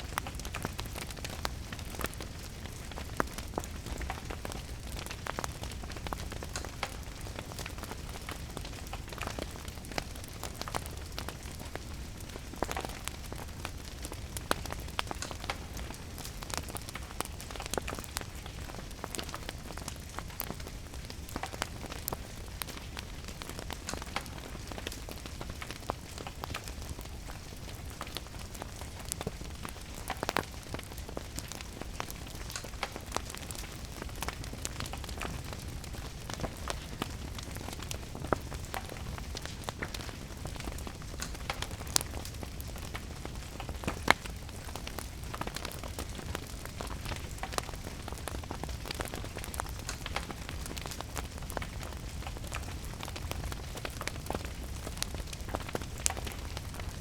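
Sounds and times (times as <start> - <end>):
steady rain: 0.0 - 57.0
wood fire crackling: 0.0 - 57.0.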